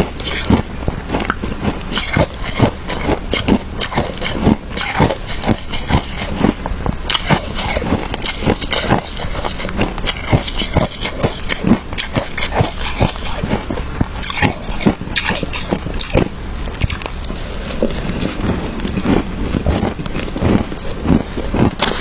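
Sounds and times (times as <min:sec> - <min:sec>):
chewing crunchy ice: 0:00.0 - 0:22.0.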